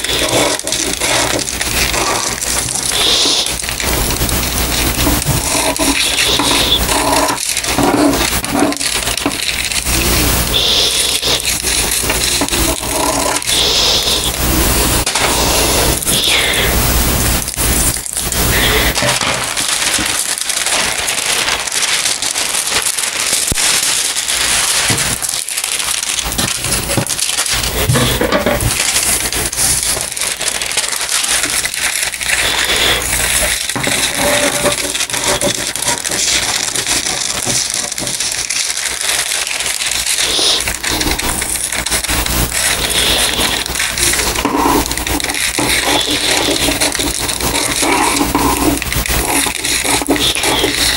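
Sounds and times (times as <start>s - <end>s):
paper crinkling and rustling: 0.0s - 50.9s
scissors cutting paper: 0.0s - 50.9s.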